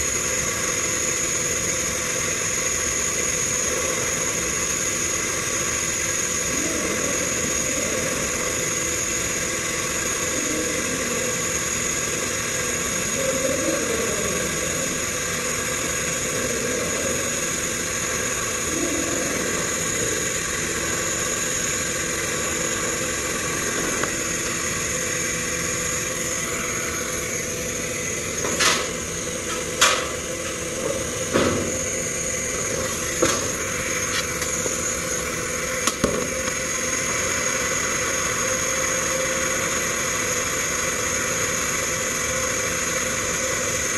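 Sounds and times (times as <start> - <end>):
high whine: 0.0 - 43.9
machinery hum and hiss: 0.0 - 43.9.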